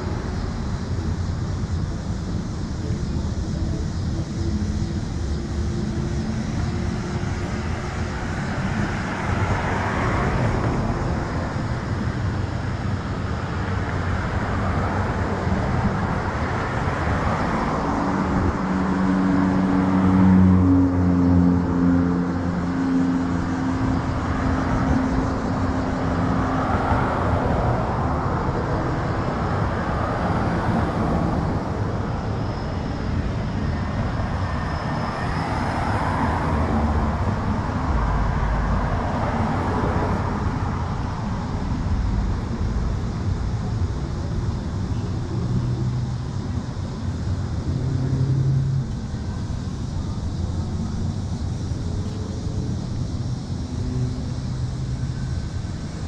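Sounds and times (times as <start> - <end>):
cars passing: 0.0 - 56.0
heavy vehicle engine hum: 0.0 - 56.0.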